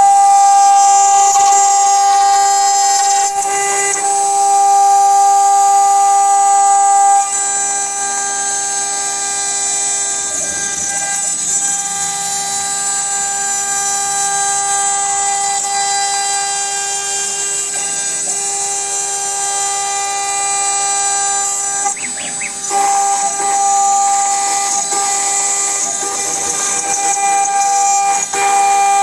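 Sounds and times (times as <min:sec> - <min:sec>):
router spindle high whine: 0:00.0 - 0:29.0.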